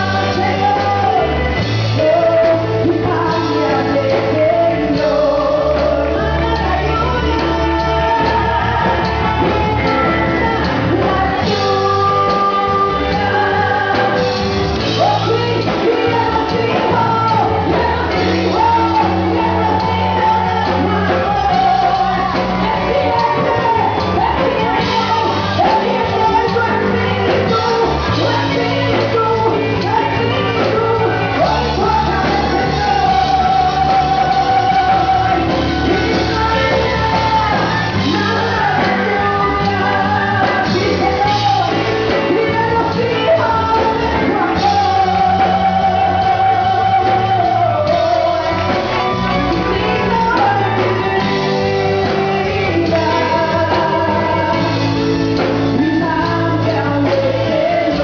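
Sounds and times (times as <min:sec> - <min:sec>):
band with bass and drums: 0:00.0 - 0:58.0
gospel singers: 0:00.0 - 0:58.0.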